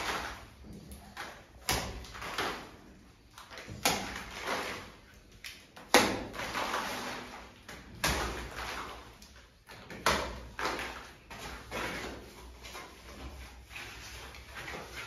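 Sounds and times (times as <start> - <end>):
trowel slapping and scraping plaster: 0.0 - 15.0.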